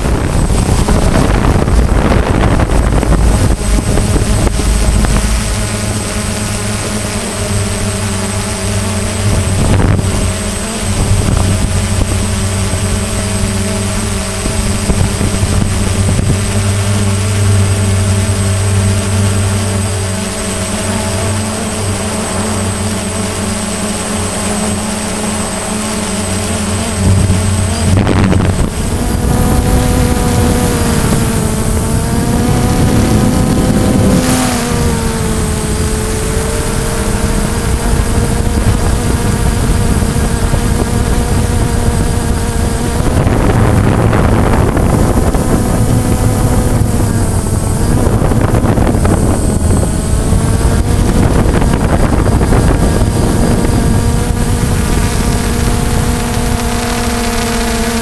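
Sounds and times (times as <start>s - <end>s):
drone propellers buzzing: 0.0s - 58.0s
wind rumbling on microphone: 0.0s - 58.0s.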